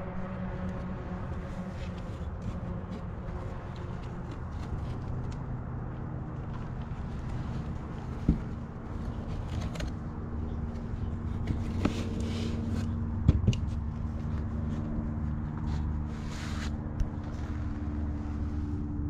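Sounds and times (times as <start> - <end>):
low engine-like hum: 0.0 - 19.0
rustling and scraping: 0.6 - 19.0.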